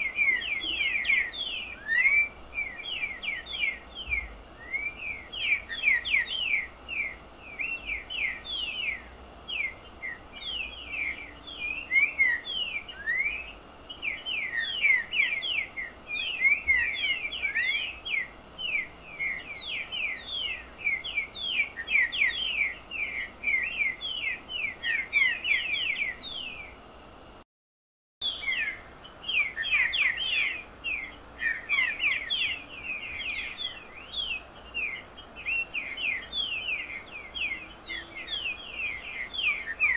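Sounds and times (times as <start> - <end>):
bird singing whistled notes: 0.0 - 26.8, 28.2 - 39.9.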